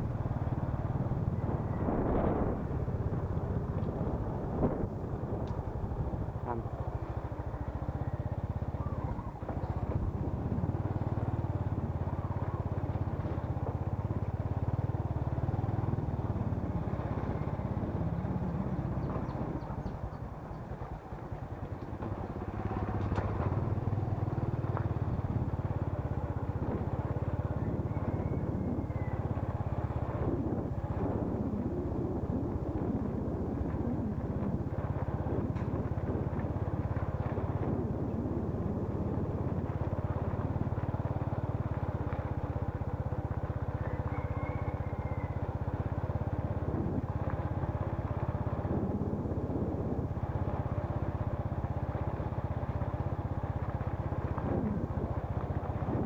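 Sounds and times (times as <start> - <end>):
motorbike engine running: 0.0 - 56.0.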